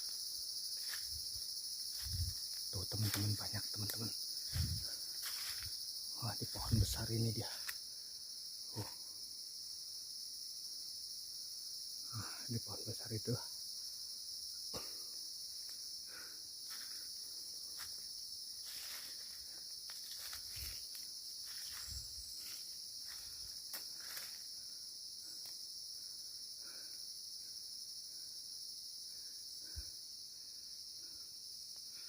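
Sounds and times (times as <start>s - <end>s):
insect chorus drone: 0.0s - 32.0s.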